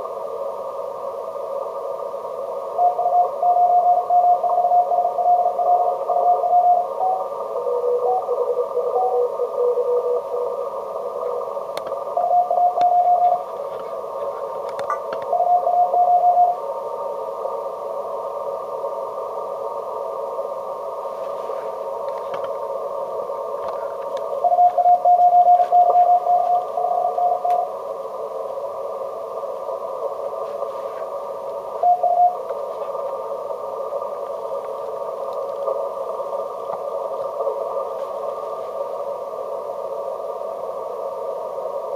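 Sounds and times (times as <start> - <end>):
radio band hiss: 0.0 - 41.9.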